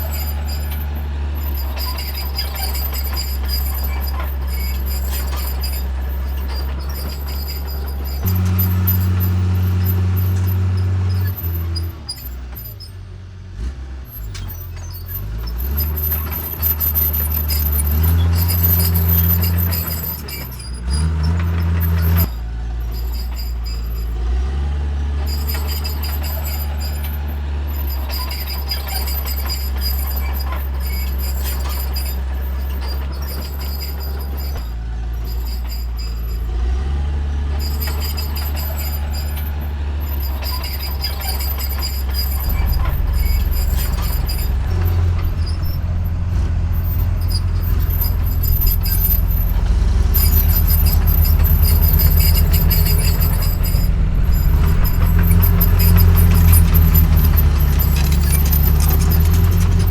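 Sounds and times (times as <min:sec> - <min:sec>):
high-pitched squeals and clanks: 0:00.0 - 0:13.0, 0:14.1 - 0:59.9
heavy diesel engine under load: 0:00.0 - 0:59.9.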